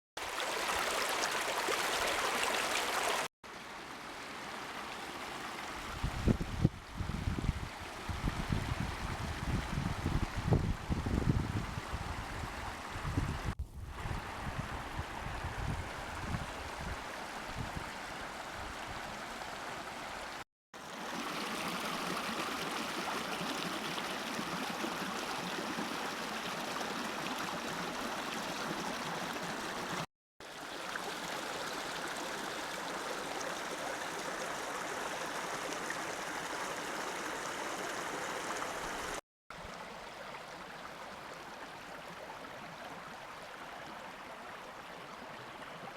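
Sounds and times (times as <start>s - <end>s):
water flowing in stream: 0.2s - 45.9s.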